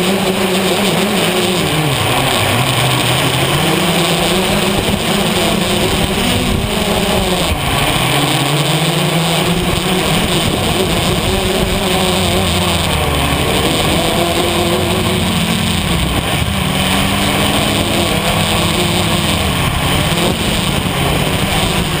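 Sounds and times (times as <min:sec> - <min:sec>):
quadcopter propellers whirring: 0:00.0 - 0:22.0.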